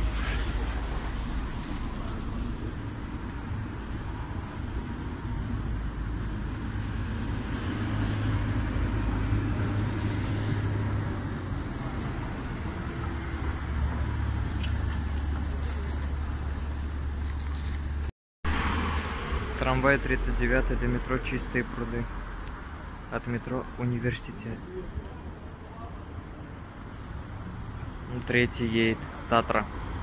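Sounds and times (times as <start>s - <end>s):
tram rumbling past: 0.0s - 28.1s
city traffic: 0.0s - 30.0s.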